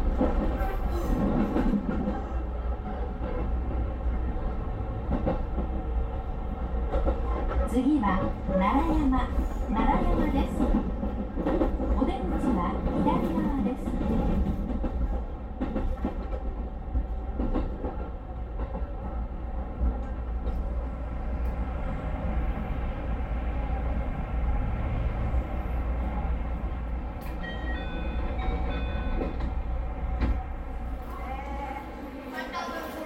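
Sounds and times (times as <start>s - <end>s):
train hum and rumble: 0.0s - 33.0s.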